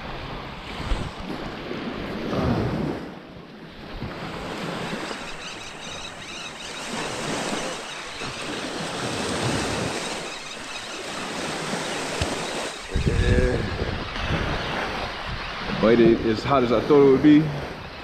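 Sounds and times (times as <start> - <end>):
small waves washing onto shore: 0.0 - 18.0.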